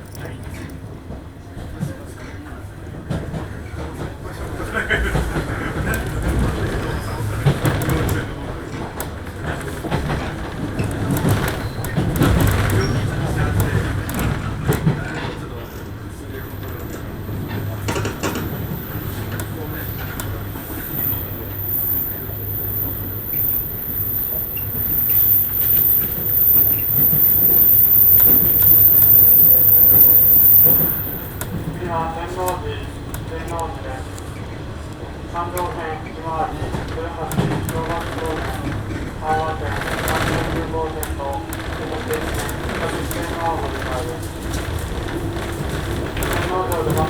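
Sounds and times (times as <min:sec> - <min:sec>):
train cabin rumble: 0:00.0 - 0:47.0
wheel and track clicks: 0:05.1 - 0:15.8, 0:16.6 - 0:34.2, 0:36.6 - 0:47.0.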